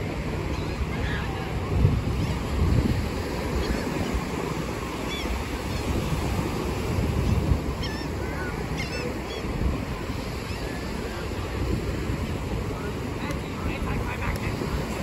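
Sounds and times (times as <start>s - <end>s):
ocean surf on beach: 0.0s - 15.0s
wind buffeting microphone: 0.0s - 15.0s.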